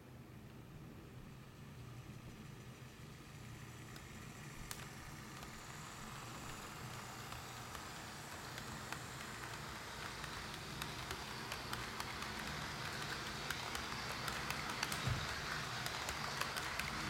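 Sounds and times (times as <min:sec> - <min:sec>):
model train cars rattling on track: 0:01.4 - 0:17.0.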